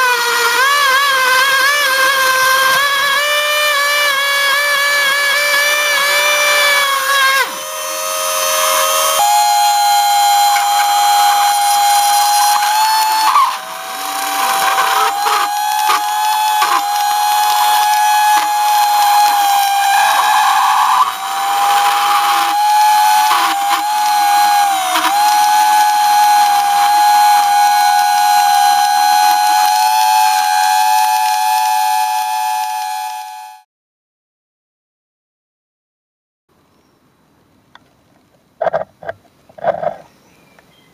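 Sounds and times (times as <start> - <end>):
rc car motor whining: 0.0 - 33.6.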